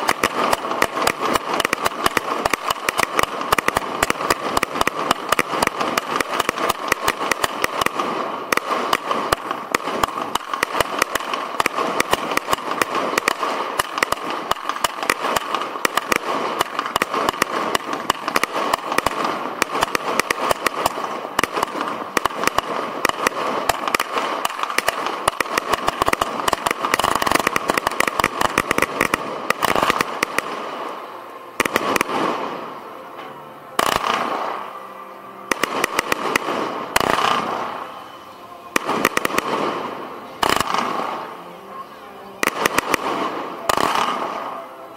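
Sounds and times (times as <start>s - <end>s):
fireworks crackling and banging: 0.0s - 44.9s.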